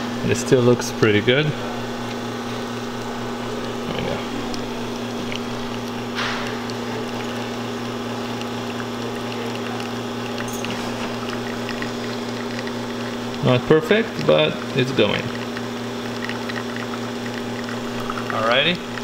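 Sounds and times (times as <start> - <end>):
espresso machine pump humming: 0.0 - 19.0.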